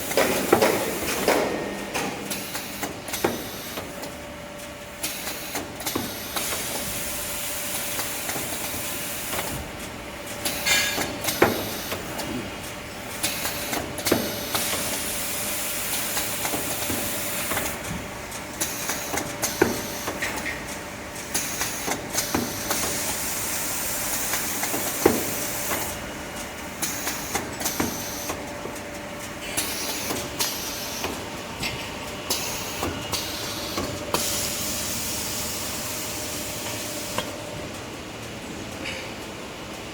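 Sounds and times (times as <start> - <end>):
machine hiss: 0.0 - 4.1, 4.9 - 9.6, 10.2 - 17.9, 18.5 - 20.5, 21.2 - 26.0, 26.6 - 28.5, 29.2 - 37.3.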